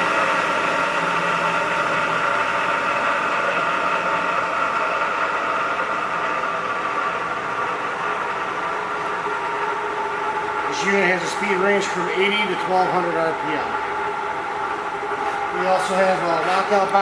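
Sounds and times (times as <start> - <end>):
drill press motor humming: 0.0 - 17.0.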